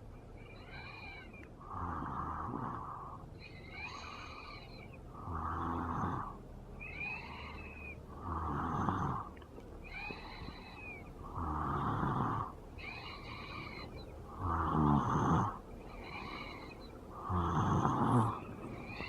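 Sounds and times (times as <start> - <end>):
rhythmic snoring: 0.0 - 19.0.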